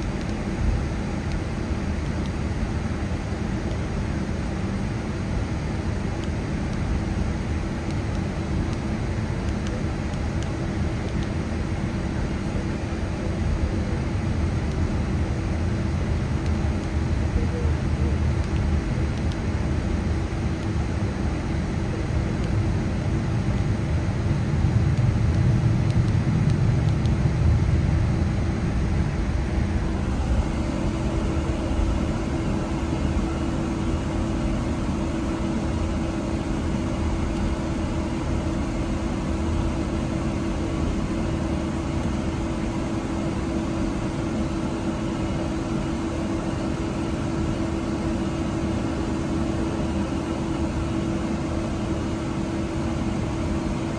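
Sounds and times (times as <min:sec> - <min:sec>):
aircraft cabin drone: 0:00.0 - 0:53.9.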